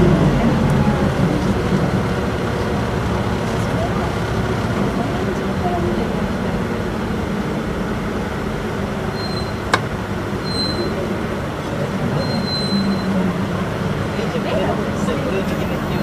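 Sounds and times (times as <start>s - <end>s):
bus engine and road drone: 0.0s - 16.0s.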